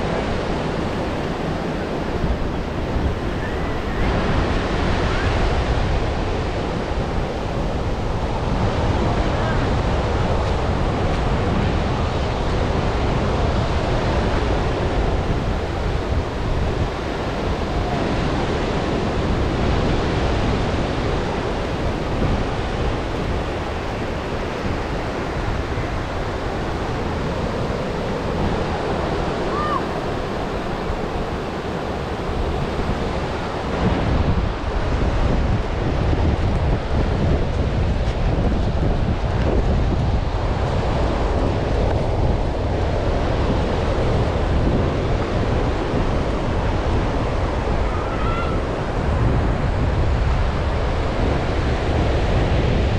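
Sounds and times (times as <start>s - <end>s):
ocean surf washing: 0.0s - 52.9s
wind buffeting microphone: 0.0s - 52.9s.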